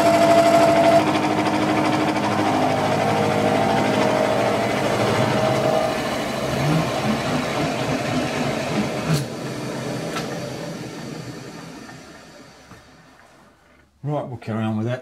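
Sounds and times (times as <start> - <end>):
milling machine cutting: 0.0 - 13.1.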